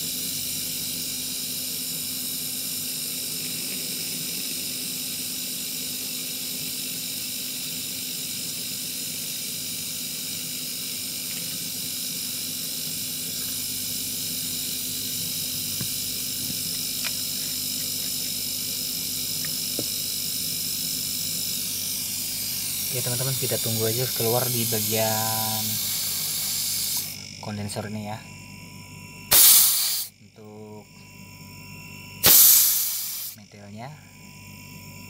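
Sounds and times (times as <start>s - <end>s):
compressor humming and hissing: 0.0s - 35.0s.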